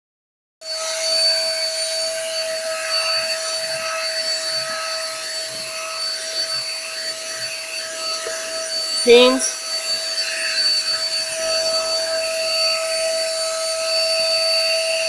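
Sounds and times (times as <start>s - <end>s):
handheld vacuum cleaner running: 0.7s - 15.0s.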